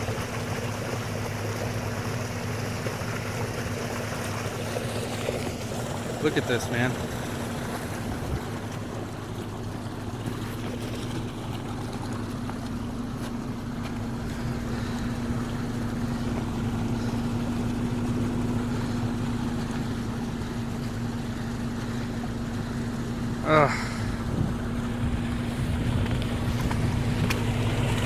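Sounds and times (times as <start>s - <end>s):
floodwater rushing: 0.0s - 28.0s
low steady hum: 0.0s - 28.0s.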